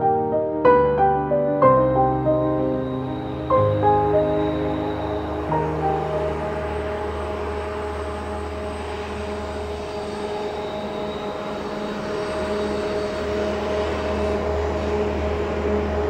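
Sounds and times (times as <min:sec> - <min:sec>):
diesel locomotive engines droning: 0:01.7 - 0:16.0.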